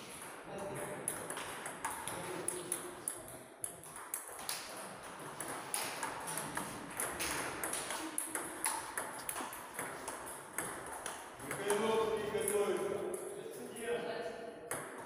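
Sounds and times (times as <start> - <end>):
table tennis balls clicking: 0.0 - 13.3.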